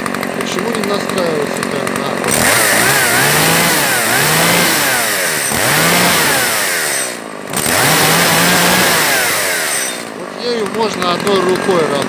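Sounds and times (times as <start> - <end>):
chainsaw engine revving: 0.0 - 12.0.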